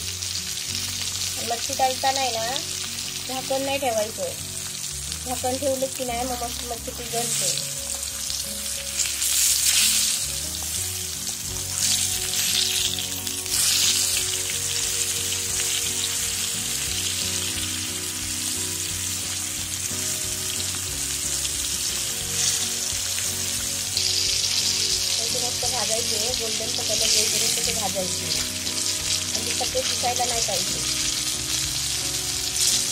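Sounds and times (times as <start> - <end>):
fish fillets sizzling in oil: 0.0 - 32.9.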